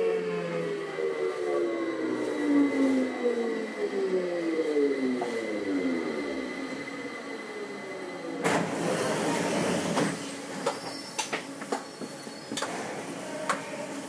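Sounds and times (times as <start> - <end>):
rail car whine: 0.0 - 14.0.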